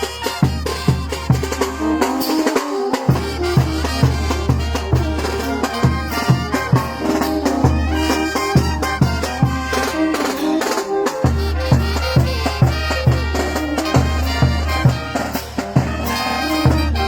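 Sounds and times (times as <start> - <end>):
band music with brass and drums: 0.0 - 17.0.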